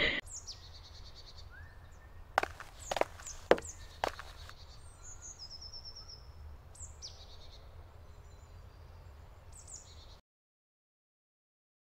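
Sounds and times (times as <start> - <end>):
songbirds singing: 0.2 - 10.2.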